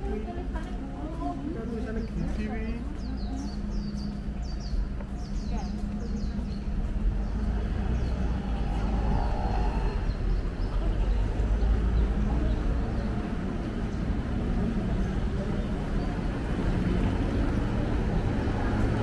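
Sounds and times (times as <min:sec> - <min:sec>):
indistinct voices: 0:00.0 - 0:19.0
traffic rumble: 0:00.0 - 0:19.0.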